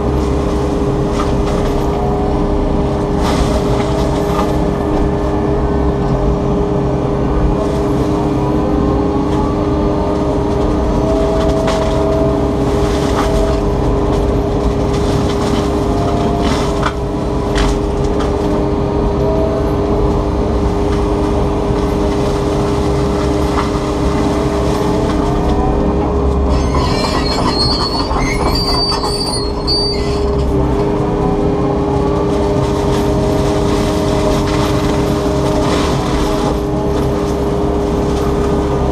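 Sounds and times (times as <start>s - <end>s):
excavator mulching head whining: 0.0s - 38.9s.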